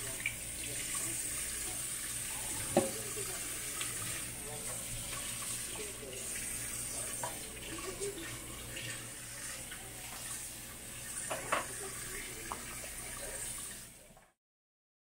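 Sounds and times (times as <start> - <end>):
faucet water splashing in sink: 0.0 - 14.4.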